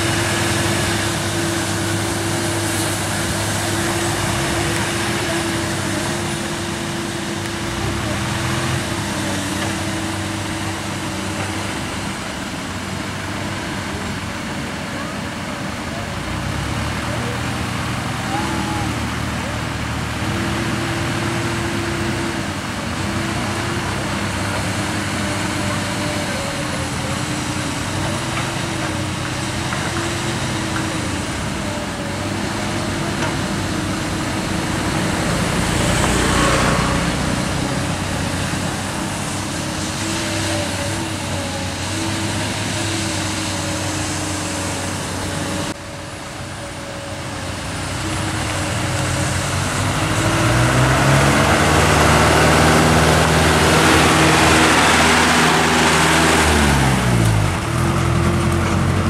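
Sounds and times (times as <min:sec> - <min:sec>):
dump truck engine running: 0:00.0 - 0:59.0.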